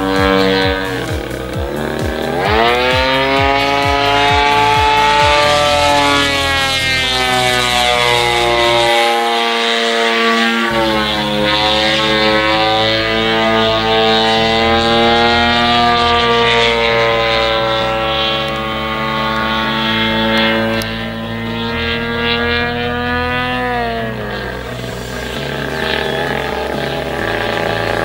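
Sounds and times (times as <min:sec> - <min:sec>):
model plane engine and propeller: 0:00.0 - 0:28.0.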